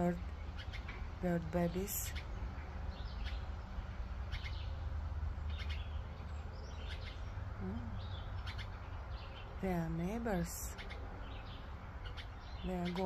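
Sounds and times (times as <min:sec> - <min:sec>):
baby birds chirping: 0:00.0 - 0:13.0
steady low hum: 0:00.0 - 0:13.0.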